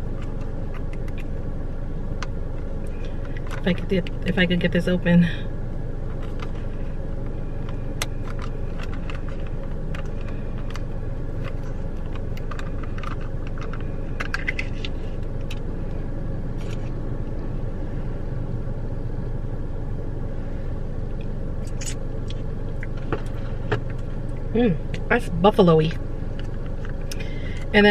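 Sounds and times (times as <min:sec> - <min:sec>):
car engine rumble: 0:00.0 - 0:27.9.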